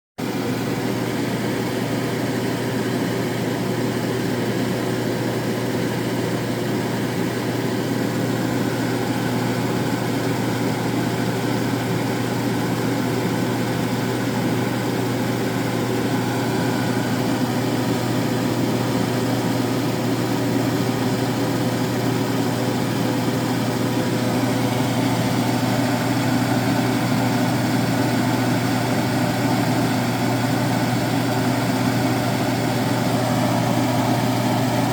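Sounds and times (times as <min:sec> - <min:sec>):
low mechanical hum: 0:00.4 - 0:34.9.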